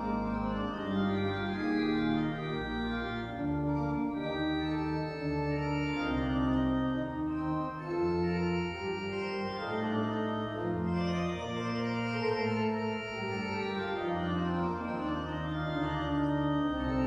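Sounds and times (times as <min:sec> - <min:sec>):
pipe organ playing slow chords: 0:00.0 - 0:17.0.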